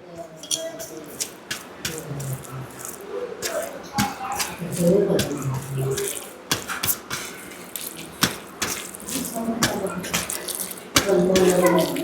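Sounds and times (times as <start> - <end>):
wet squelchy eating: 0.0 - 12.0.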